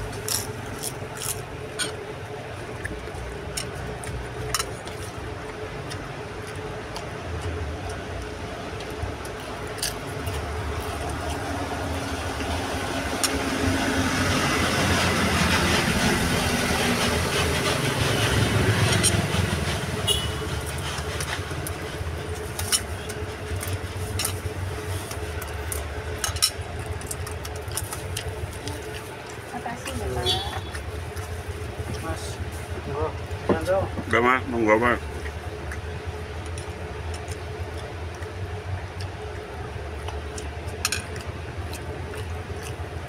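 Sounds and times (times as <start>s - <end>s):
steady low rumble: 0.0s - 43.0s
vehicle engine and tyre noise: 0.0s - 43.0s.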